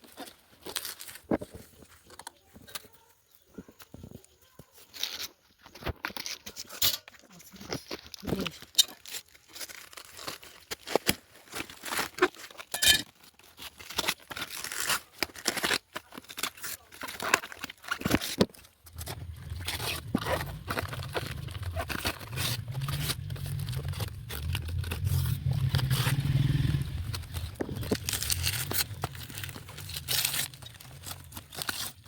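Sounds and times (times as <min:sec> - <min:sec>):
tearing and crunching noises: 0:00.0 - 0:32.0.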